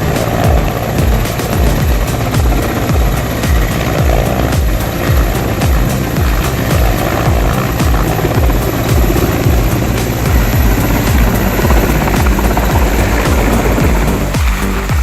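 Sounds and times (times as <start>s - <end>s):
helicopter rotor beating: 0.0s - 15.0s.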